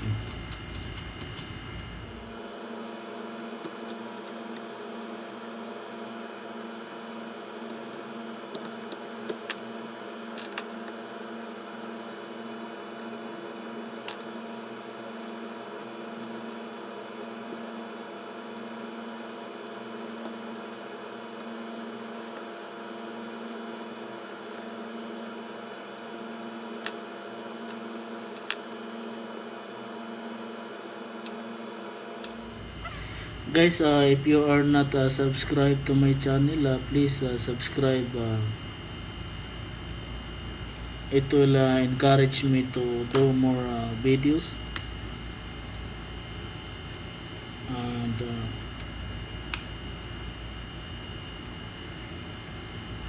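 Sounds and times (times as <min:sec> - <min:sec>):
electrical hum with faint hiss: 0:00.0 - 0:53.0.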